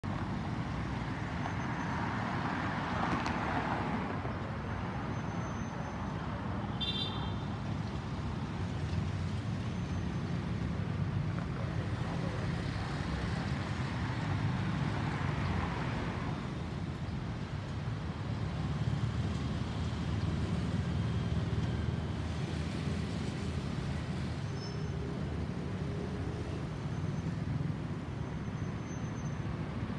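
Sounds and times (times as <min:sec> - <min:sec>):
road traffic noise: 0:00.0 - 0:29.9.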